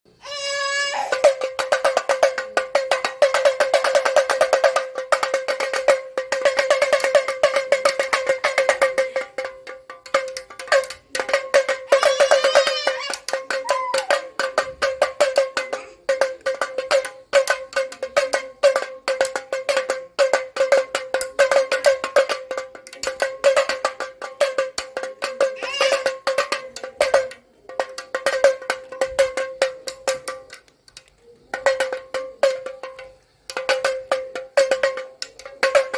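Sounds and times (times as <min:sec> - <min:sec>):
hand drum rattling beats: 0:00.1 - 0:35.9.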